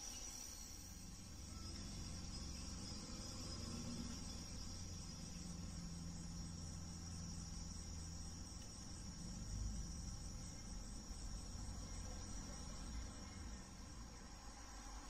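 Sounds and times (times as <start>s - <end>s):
high-pitched insect trill: 0.0s - 15.0s
low hum: 0.0s - 15.0s.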